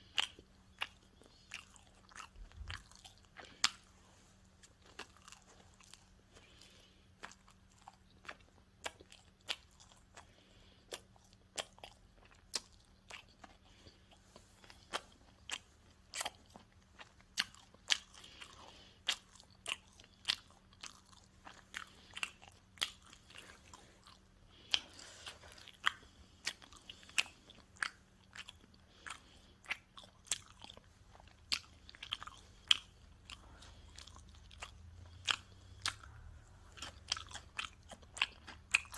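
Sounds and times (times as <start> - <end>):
crisp crunches of chewing: 0.0 - 38.9.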